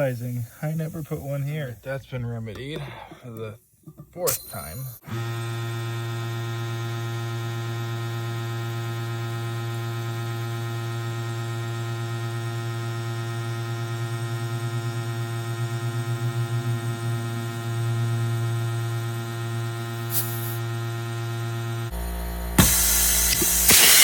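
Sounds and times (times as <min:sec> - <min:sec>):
air compressor humming: 0:00.0 - 0:24.0.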